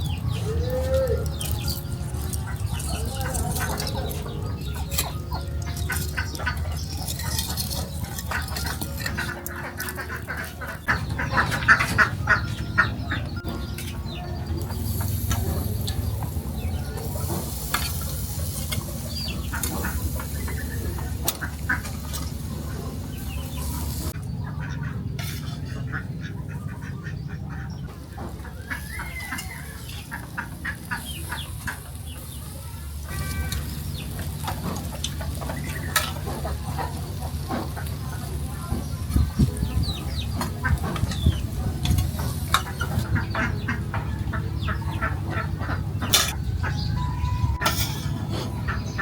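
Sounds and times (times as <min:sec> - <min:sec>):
chickens clucking: 0:00.0 - 0:49.0.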